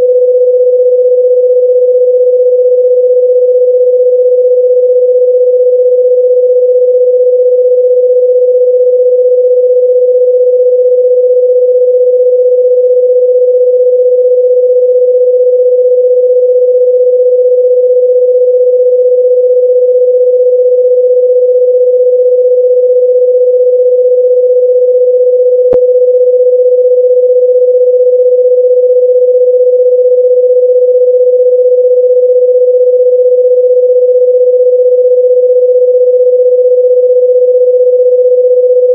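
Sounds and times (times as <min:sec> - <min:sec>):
electronic sine tone: 0:00.0 - 0:38.9.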